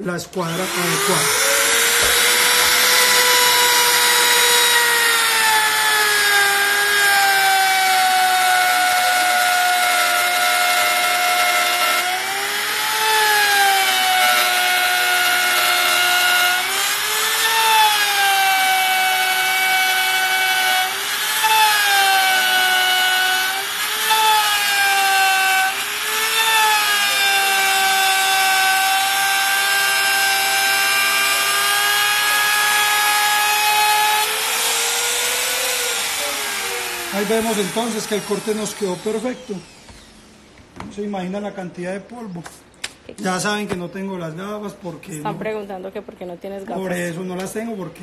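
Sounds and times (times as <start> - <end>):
router whining while cutting: 0.0 - 40.7.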